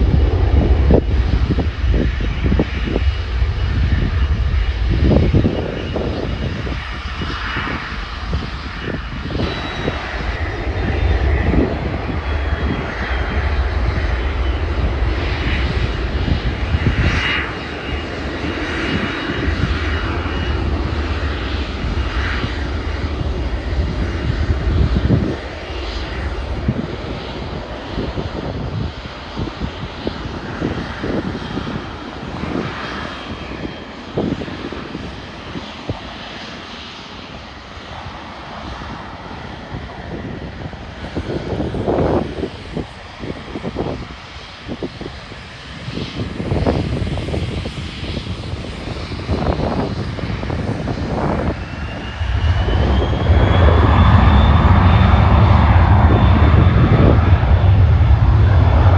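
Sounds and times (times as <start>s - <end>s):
jet engines rumbling: 0.0s - 58.9s.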